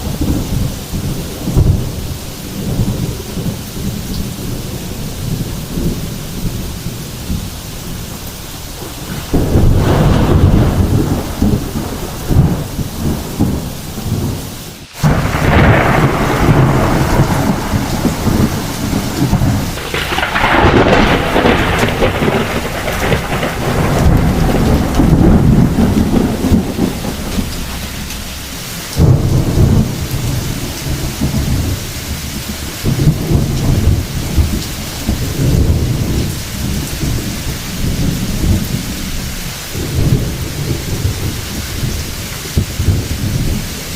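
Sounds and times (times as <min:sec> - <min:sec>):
heavy rain falling: 0:00.0 - 0:43.9
rolling thunder: 0:00.0 - 0:43.9.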